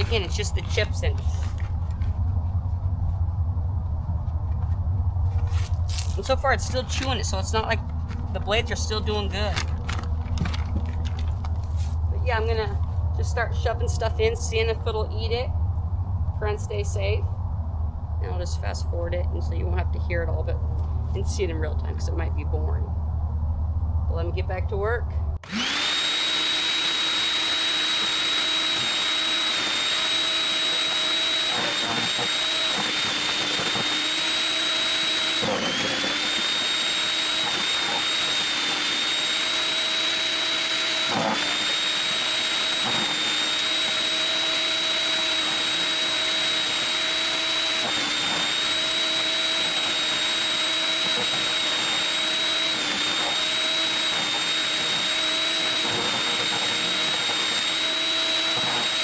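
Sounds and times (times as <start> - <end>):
wood chipper motor whine: 0.0 - 20.0, 25.3 - 59.0.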